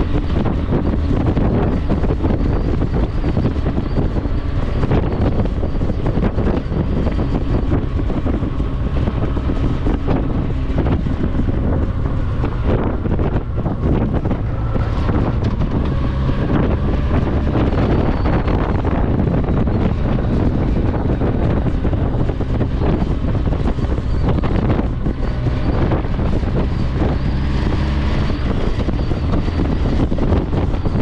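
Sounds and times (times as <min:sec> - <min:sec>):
faint vehicle noise: 0:00.0 - 0:31.0
wind buffeting the microphone: 0:00.0 - 0:31.0.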